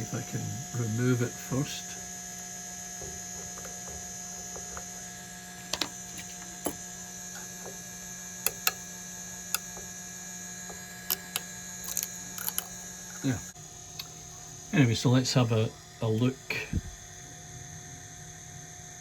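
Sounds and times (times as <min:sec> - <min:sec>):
printer fans humming: 0:00.0 - 0:17.3.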